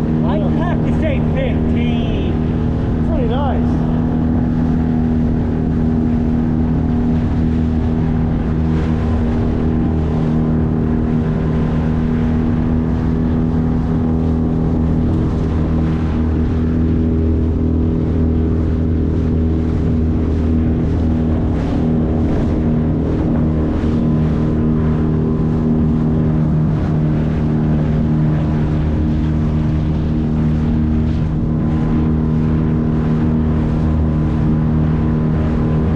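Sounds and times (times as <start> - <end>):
outboard motor running: 0.0 - 35.9
water rushing past hull: 0.0 - 35.9.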